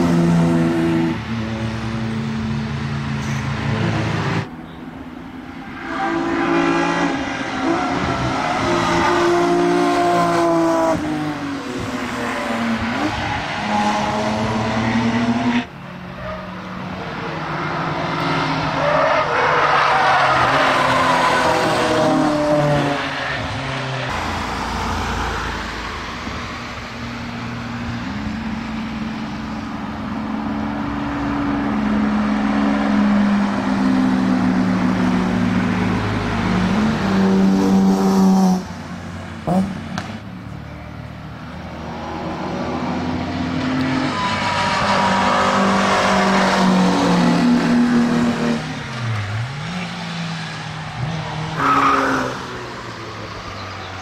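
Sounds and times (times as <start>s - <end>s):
sports cars driving past: 0.0s - 54.0s.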